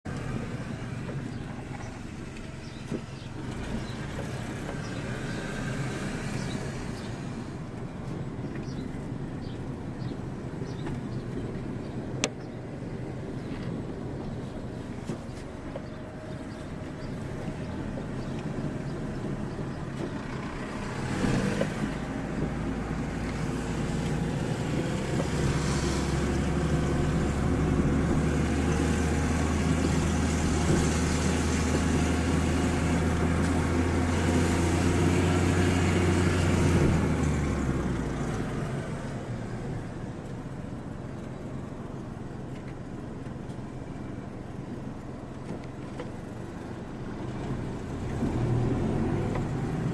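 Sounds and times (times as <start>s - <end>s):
motor vehicle engine passing: 0.1s - 12.0s, 13.4s - 40.3s, 45.8s - 49.9s.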